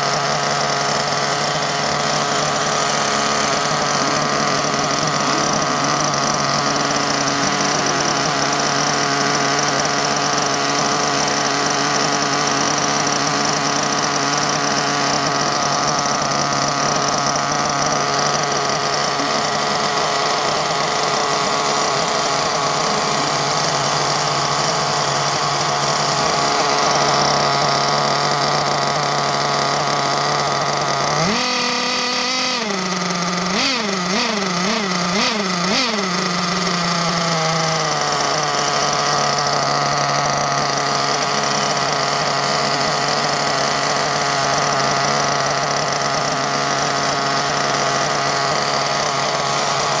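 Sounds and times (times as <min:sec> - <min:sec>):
model car engine idling and revving: 0:00.0 - 0:50.0.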